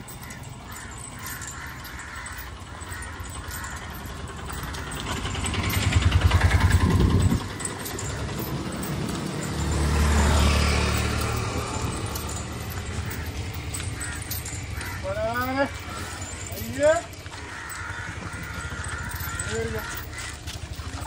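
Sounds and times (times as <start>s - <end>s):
autorickshaw engine throbbing: 0.0s - 21.0s
engine hum: 0.0s - 21.0s
vehicles passing: 0.0s - 21.0s.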